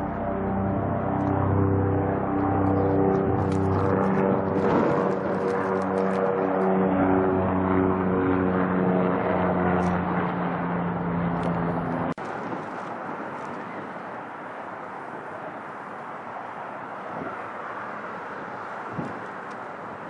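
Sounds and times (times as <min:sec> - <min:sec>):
helicopter drone overhead: 0:00.0 - 0:20.0.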